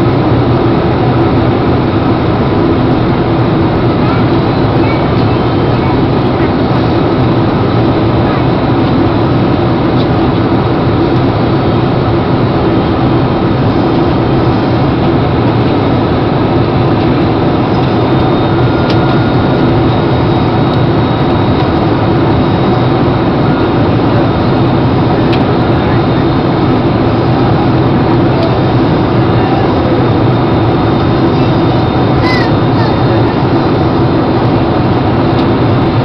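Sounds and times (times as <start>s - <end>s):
jet engines and rushing air: 0.0s - 36.0s.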